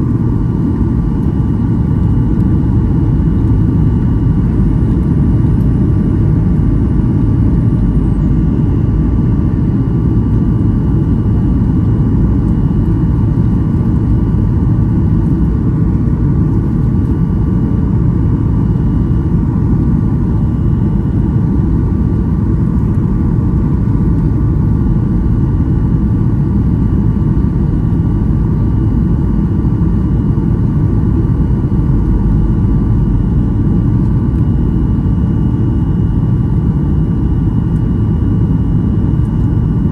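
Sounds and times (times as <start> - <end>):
airplane cabin airflow and engine rush: 0.0 - 39.9.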